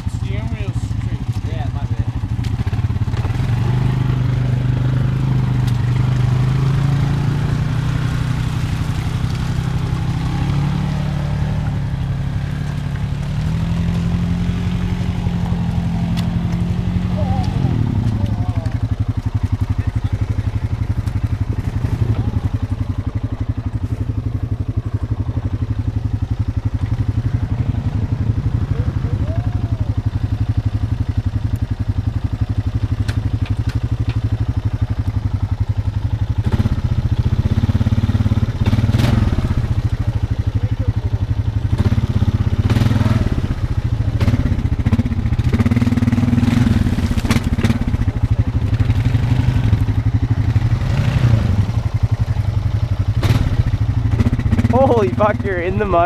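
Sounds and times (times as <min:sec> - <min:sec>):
atv engine revving under load: 0:00.0 - 0:56.0
wheels spinning in mud: 0:00.0 - 0:56.0.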